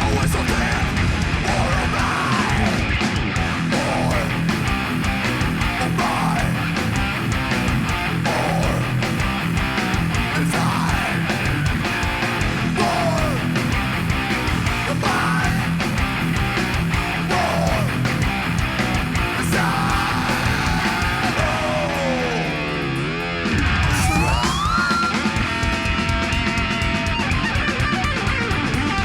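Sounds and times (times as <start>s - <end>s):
live heavy rock band: 0.0s - 29.0s.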